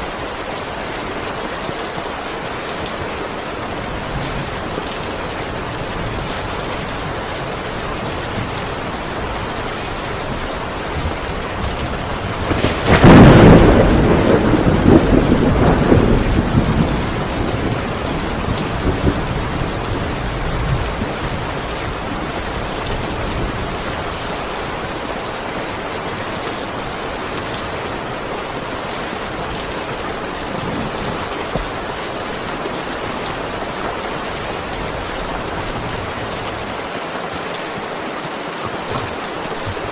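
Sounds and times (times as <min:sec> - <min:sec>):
heavy rain: 0:00.0 - 0:39.9
thunderclap rumbling: 0:03.6 - 0:36.9.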